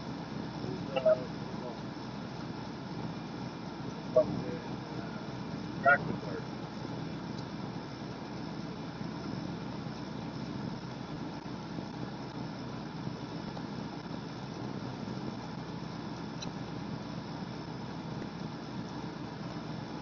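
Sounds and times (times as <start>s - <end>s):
van engine running: 0.0s - 20.0s.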